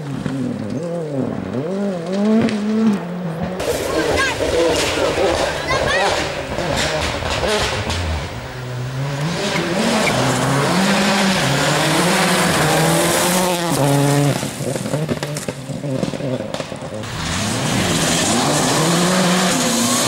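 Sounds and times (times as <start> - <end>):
rally car engine revving: 0.0 - 20.0
sharp engine crackles: 0.0 - 20.0.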